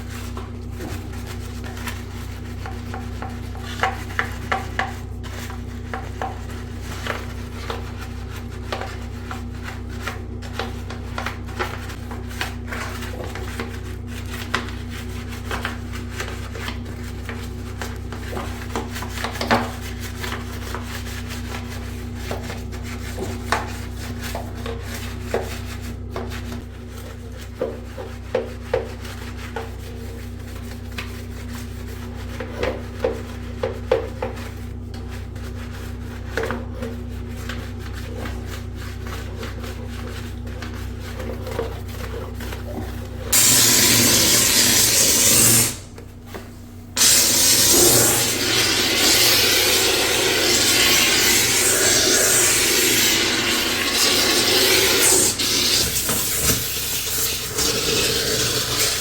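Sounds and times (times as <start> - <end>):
hands scrubbing plastic parts: 0.0 - 59.0.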